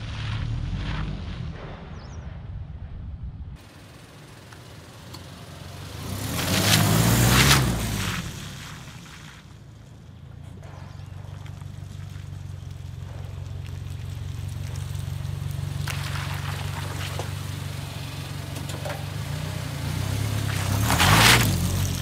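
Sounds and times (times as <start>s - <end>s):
car engine running: 3.6s - 22.0s.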